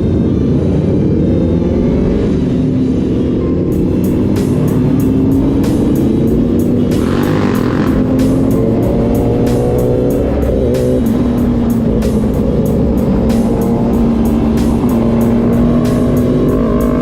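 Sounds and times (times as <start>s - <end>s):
motorcycle engine running: 0.0s - 17.0s
background music with steady beat: 1.1s - 17.0s.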